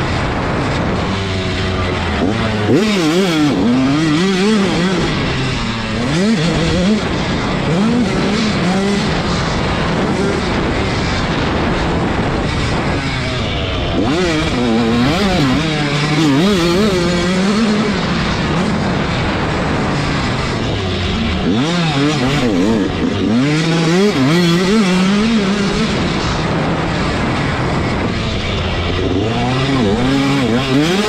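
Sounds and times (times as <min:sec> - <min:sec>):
dirt bike engine revving: 0:00.0 - 0:31.0
wind noise on microphone: 0:00.0 - 0:31.0.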